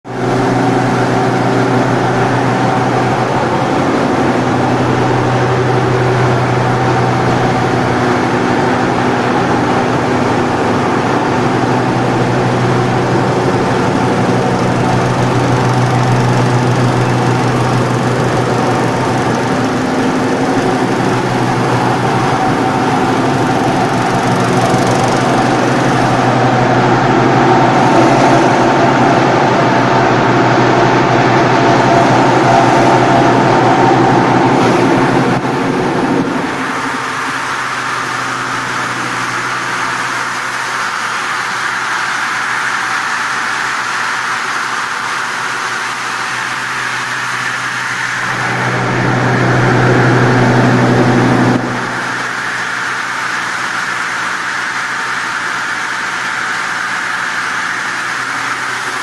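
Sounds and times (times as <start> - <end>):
rice dryer machinery drone: 0.0 - 59.0.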